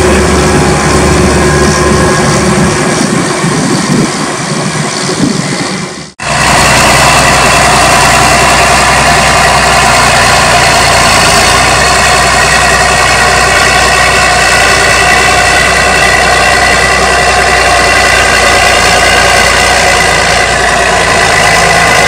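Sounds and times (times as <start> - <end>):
slurry injector rumbling: 0.0 - 22.0
tractor diesel engine running: 0.0 - 22.0.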